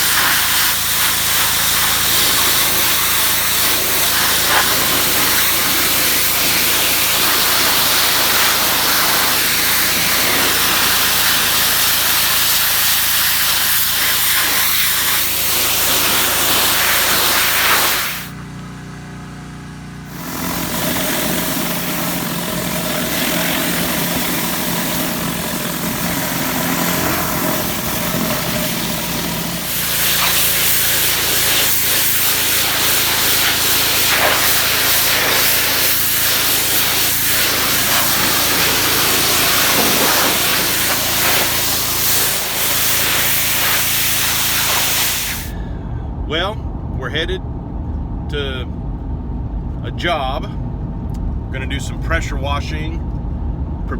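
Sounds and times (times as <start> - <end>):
pressure washer water jet hissing: 0.0 - 18.4, 20.1 - 45.6
engine running: 0.0 - 53.9.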